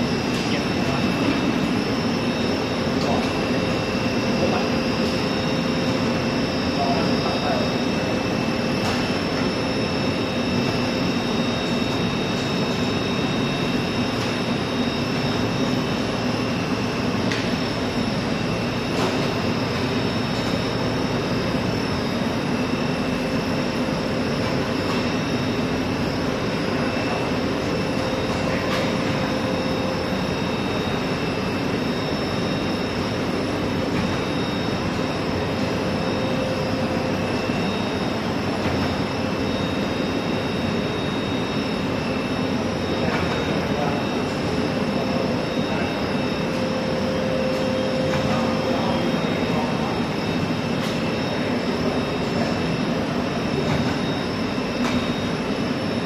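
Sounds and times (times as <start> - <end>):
machine hum and whir: 0.0 - 56.0.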